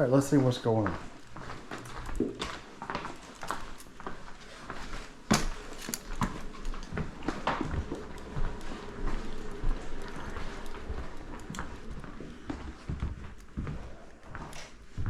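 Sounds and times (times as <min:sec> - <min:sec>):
footsteps on hard floor: 0:00.3 - 0:15.0.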